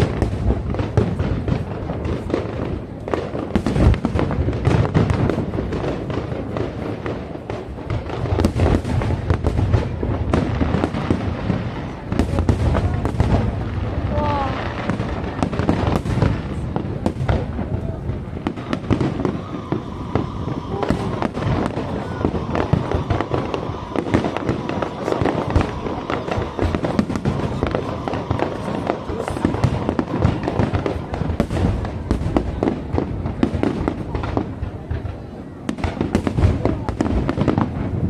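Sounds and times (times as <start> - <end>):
fireworks bursts and crackles: 0.0 - 38.0.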